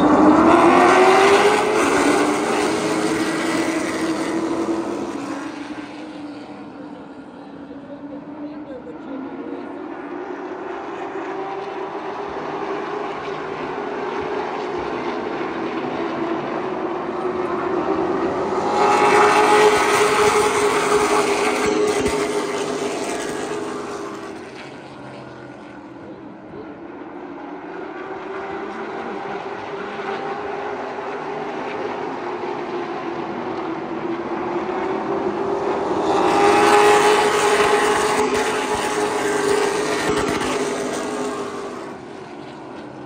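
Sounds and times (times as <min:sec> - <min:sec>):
race car engines droning: 0:00.0 - 0:43.0.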